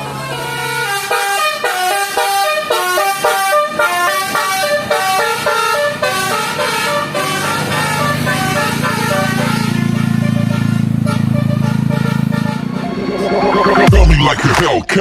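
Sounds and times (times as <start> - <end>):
bus multi-tone horn tune: 0.0 - 13.9.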